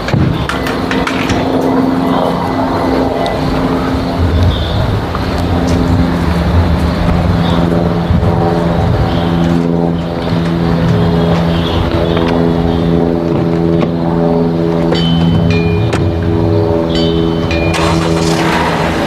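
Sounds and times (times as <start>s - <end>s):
light airplane flying past: 0.0s - 19.0s.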